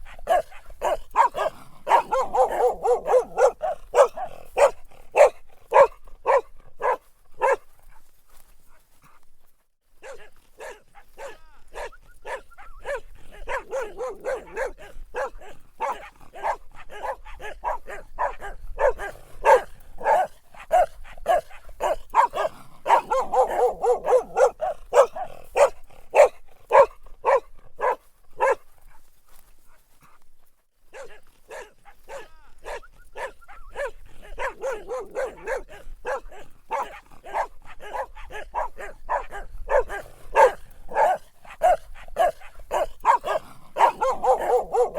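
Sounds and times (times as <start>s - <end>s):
dog barking: 0.0s - 8.1s, 10.0s - 29.0s, 30.9s - 44.9s.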